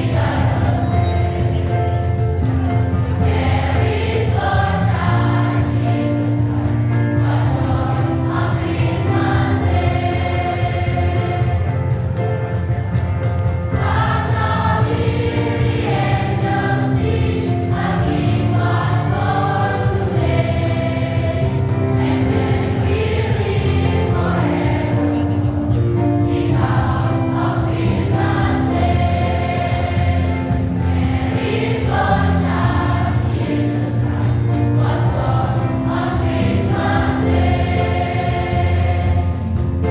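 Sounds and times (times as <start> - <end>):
choir singing: 0.0 - 12.7, 13.6 - 39.9
low accompaniment: 0.0 - 39.9.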